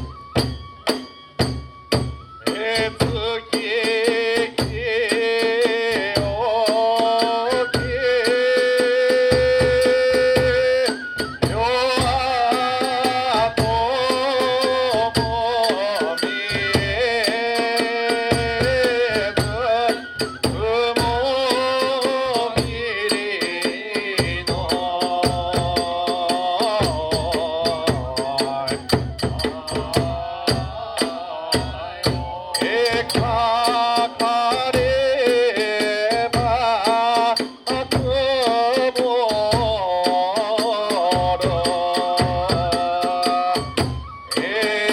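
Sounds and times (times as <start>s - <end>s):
big drum beating: 0.0s - 8.2s, 8.8s - 44.1s
bamboo flute melody: 0.0s - 35.6s, 36.2s - 44.9s.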